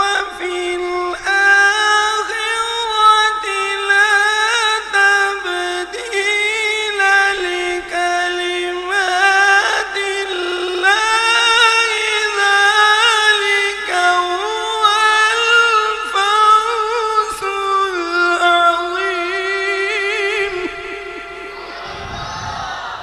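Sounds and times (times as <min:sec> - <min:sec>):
man chanting melodically: 0:00.0 - 0:22.0.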